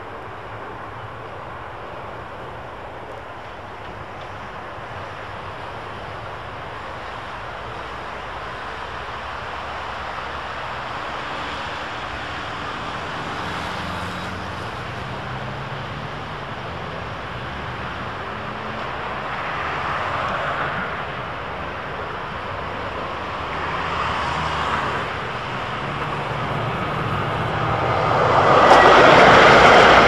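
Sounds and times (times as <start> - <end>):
electric tram approaching: 0.0 - 30.0
road traffic: 0.0 - 30.0.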